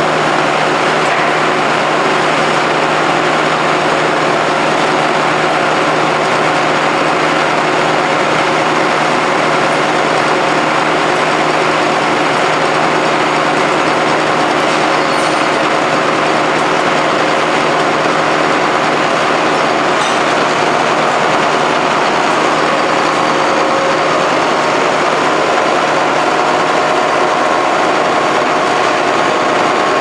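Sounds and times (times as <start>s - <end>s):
milling machine droning: 0.0s - 30.0s.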